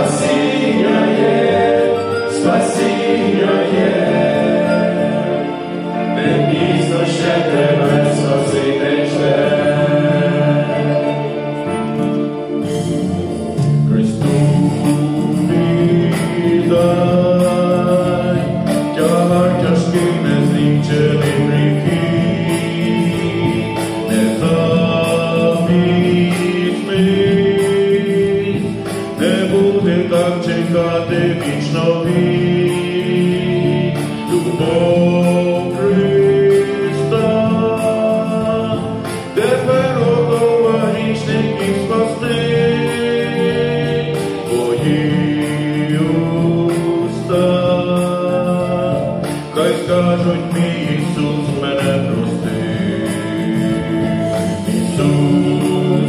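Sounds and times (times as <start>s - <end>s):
male vocal quartet singing a hymn: 0.0s - 56.0s.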